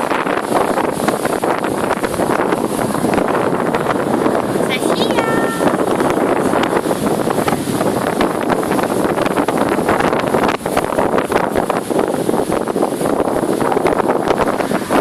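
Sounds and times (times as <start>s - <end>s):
sea surf: 0.0s - 15.0s
wind buffeting microphone: 0.0s - 15.0s.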